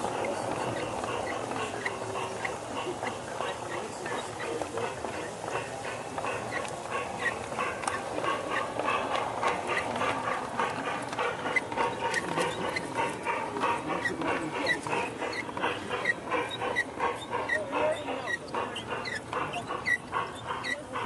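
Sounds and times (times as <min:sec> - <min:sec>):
model train running noise: 0:00.0 - 0:21.0
wheels clicking over rail joints: 0:00.0 - 0:21.0.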